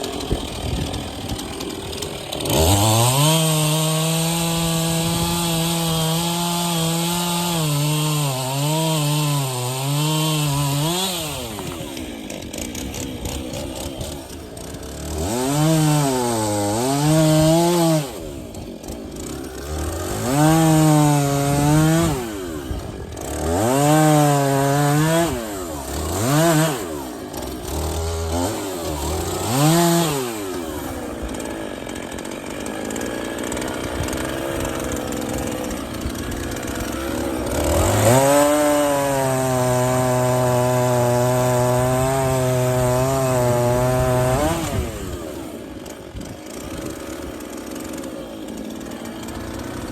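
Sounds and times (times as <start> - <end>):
chainsaw cutting logs: 0.0 - 49.9
chainsaw idling: 0.0 - 49.9.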